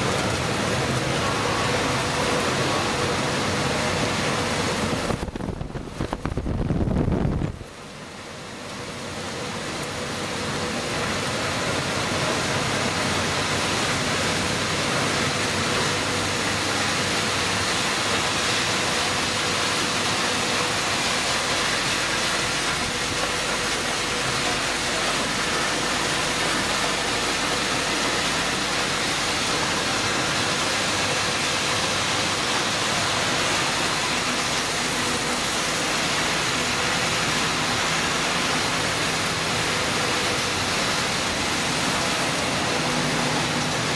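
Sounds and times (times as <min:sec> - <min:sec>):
recycling machinery rushing noise: 0:00.0 - 0:43.9.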